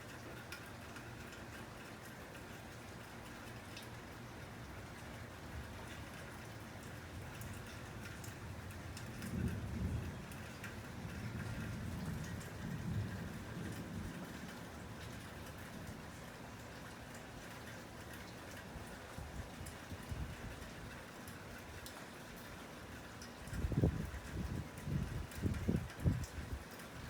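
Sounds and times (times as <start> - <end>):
raindrop ticks: 0.0 - 27.0
steady rain falling: 0.0 - 27.0.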